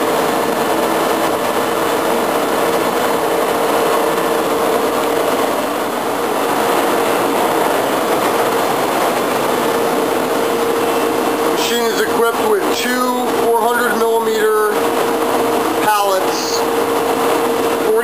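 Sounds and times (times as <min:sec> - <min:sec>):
machinery drone: 0:00.0 - 0:18.0.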